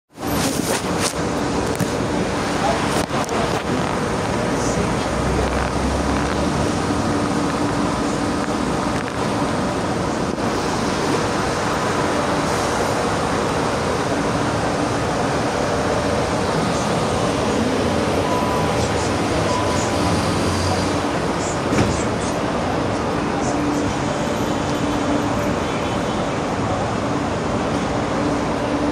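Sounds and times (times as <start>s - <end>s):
constant rushing noise: 0.1s - 28.9s.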